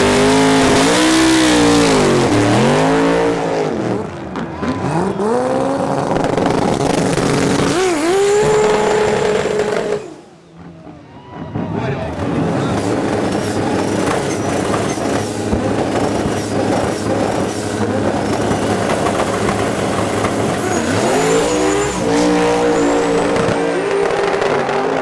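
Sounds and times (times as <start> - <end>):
engine revving up sharply: 0.0 - 10.8, 11.6 - 25.0
racing car engines at high revs: 0.0 - 25.0.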